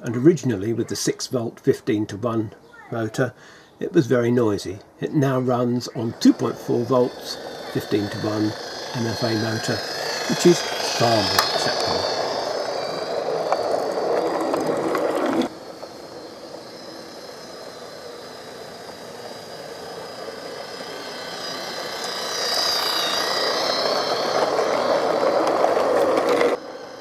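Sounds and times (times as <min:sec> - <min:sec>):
model locomotive motor whining: 0:00.0 - 0:27.0.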